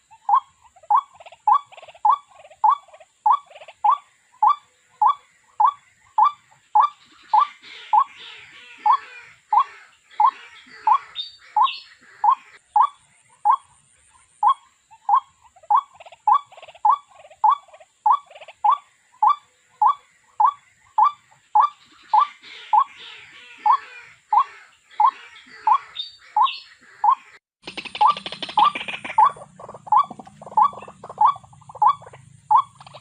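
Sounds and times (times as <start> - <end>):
rail bird calling: 0.0 - 33.0.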